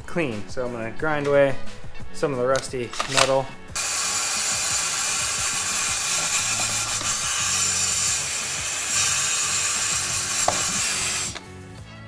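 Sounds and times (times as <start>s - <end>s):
power grinder grinding metal: 1.0s - 11.6s.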